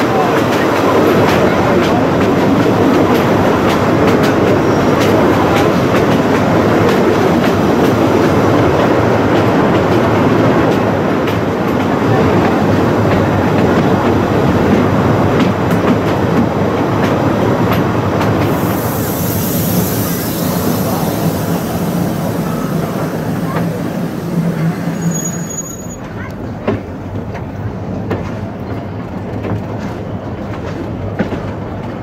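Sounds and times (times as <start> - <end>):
train coaches rumbling: 0.0 - 32.0.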